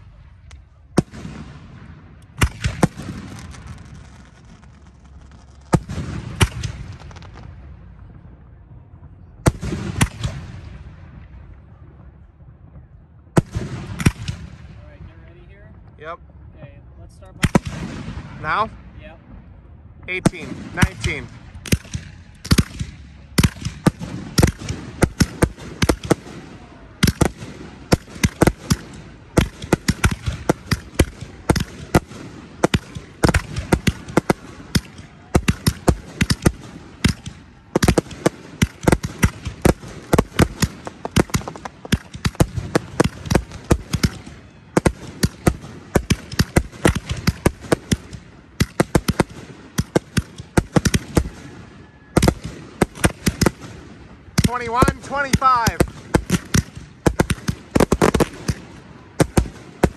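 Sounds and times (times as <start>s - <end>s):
fireworks bursting with sharp bangs: 0.0s - 15.1s, 17.3s - 19.4s, 20.1s - 59.9s.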